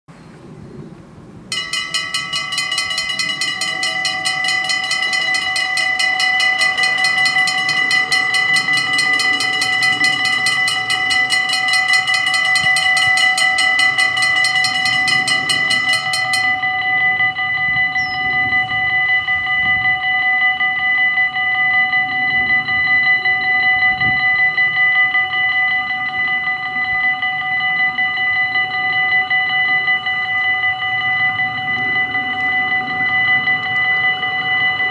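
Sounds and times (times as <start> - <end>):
level crossing bells ringing: 1.5 - 34.9.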